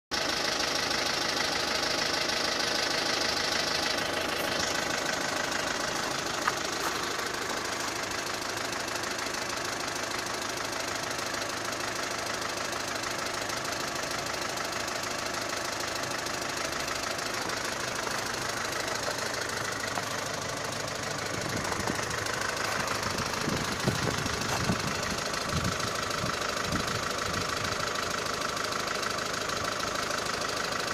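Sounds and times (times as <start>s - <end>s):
car engine idling: 0.1s - 30.9s.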